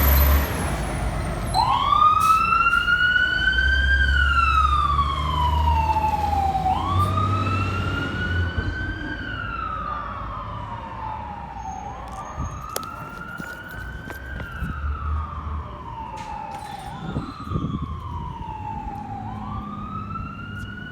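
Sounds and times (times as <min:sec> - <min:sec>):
fire engine siren wailing: 0:00.0 - 0:20.9
truck engine rumble: 0:00.0 - 0:20.9.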